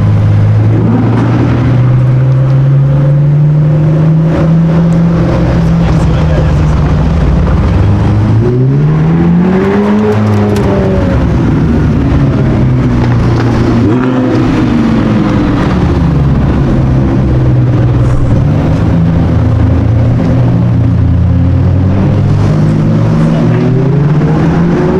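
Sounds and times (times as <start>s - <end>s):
sports car engine revving: 0.0s - 24.9s.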